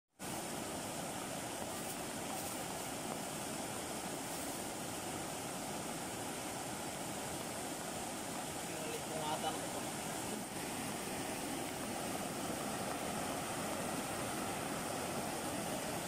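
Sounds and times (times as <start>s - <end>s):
floodwater rushing: 0.2s - 16.0s.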